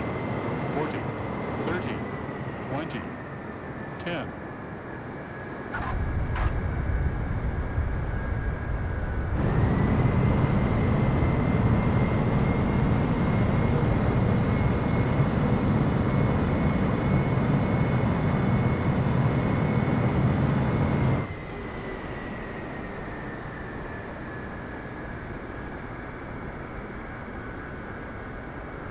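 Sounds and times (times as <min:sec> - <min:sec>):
jet engines whining and rumbling: 0:00.0 - 0:28.9.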